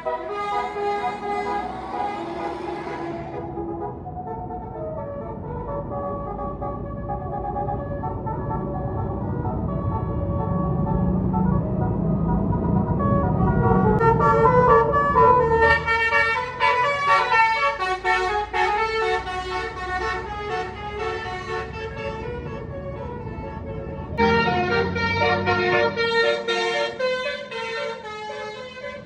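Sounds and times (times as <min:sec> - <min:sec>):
musical bus horn tune: 0:00.0 - 0:07.9, 0:08.9 - 0:29.0
bus engine rumble: 0:00.0 - 0:29.0.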